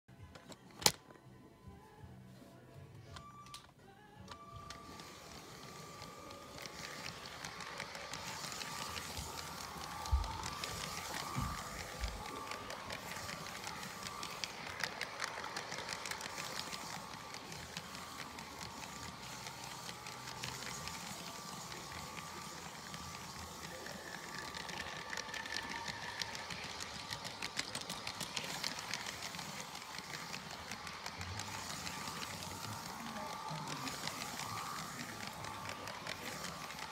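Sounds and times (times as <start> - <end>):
toy train motor whining: 4.3 - 36.9.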